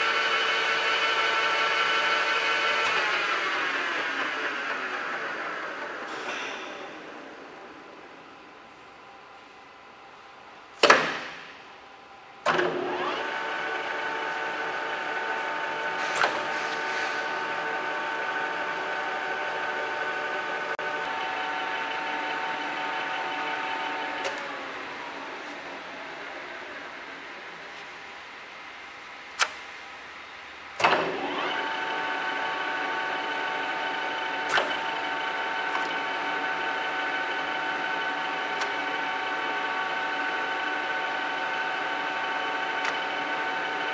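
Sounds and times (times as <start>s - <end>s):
lathe spindle whine: 0.0s - 8.0s, 12.5s - 28.8s, 30.0s - 43.9s.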